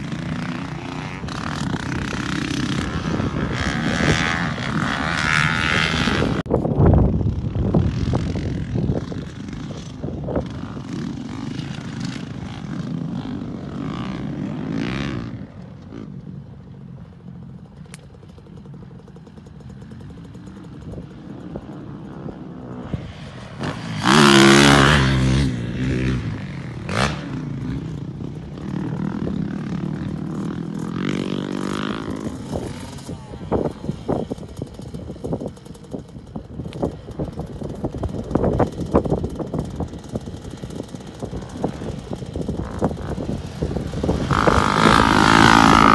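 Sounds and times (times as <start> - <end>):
dirt bike engines revving: 0.0 - 45.9
dirt bike passing close: 0.0 - 45.9.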